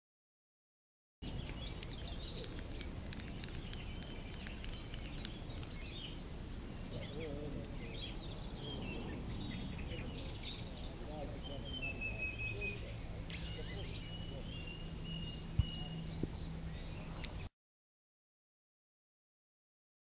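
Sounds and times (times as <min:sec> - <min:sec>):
small birds singing: 0:01.2 - 0:17.5
steady low rumble: 0:01.2 - 0:17.5.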